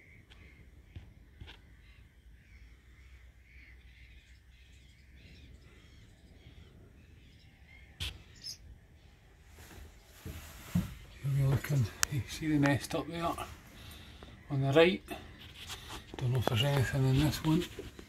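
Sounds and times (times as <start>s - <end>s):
swallow chicks calling: 0.0s - 10.2s, 10.9s - 18.0s.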